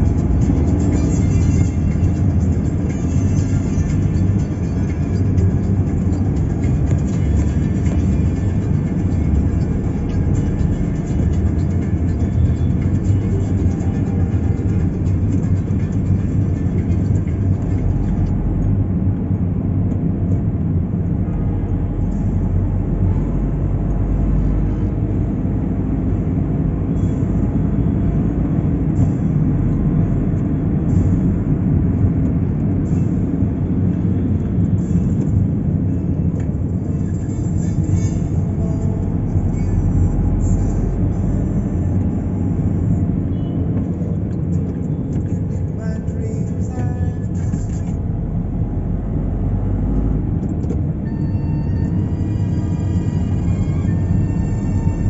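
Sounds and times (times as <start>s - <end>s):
car driving in city traffic: 0.0s - 55.0s.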